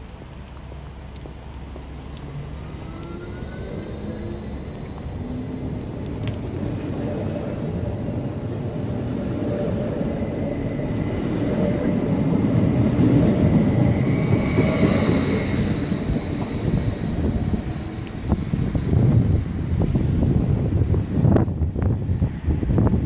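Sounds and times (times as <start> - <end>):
train running past: 0.0 - 23.0.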